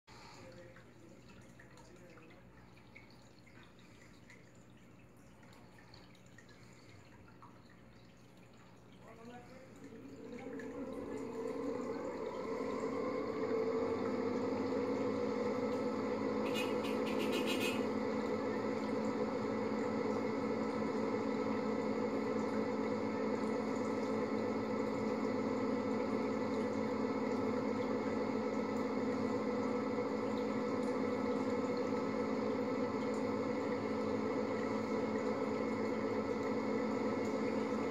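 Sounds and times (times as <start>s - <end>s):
aquarium filter humming: 0.1s - 37.9s.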